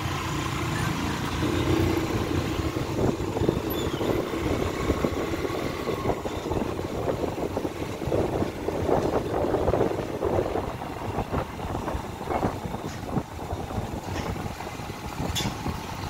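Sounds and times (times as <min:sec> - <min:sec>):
motorbike engine hum: 0:00.0 - 0:16.0
road and wind noise: 0:00.0 - 0:16.0.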